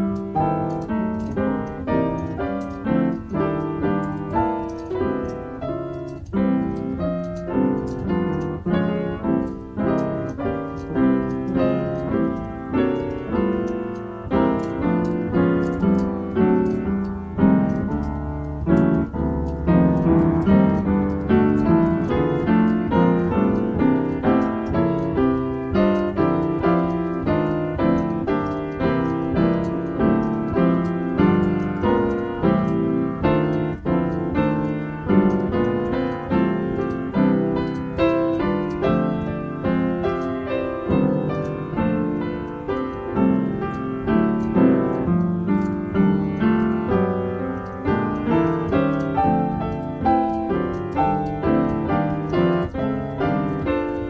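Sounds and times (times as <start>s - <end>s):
solo piano improvisation: 0.0s - 54.0s.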